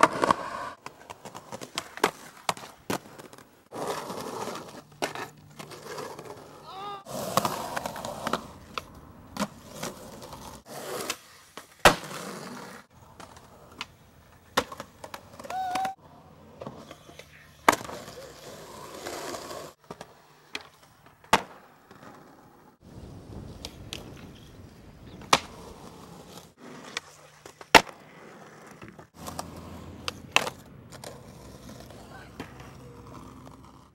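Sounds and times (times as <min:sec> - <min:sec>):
skateboard wheels rolling on concrete: 0:00.0 - 0:33.9.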